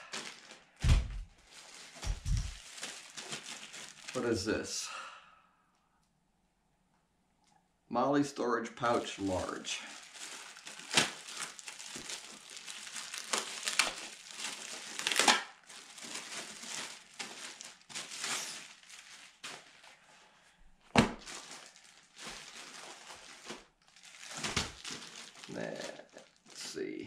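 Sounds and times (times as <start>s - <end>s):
packaging crinkling and rustling: 0.0s - 4.4s, 9.4s - 26.7s.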